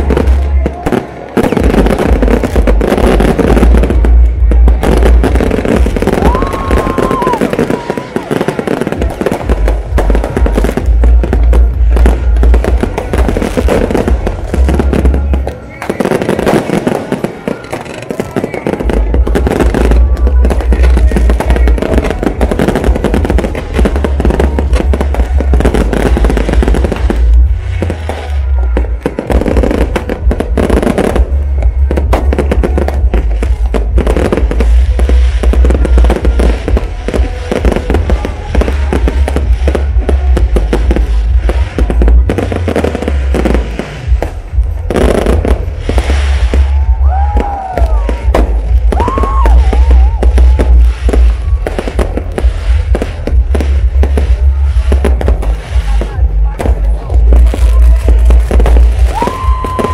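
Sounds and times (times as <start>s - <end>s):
deep low rumble: 0.0s - 15.6s, 18.7s - 59.9s
fireworks bangs and crackles: 0.0s - 59.9s
music playing: 0.0s - 59.9s.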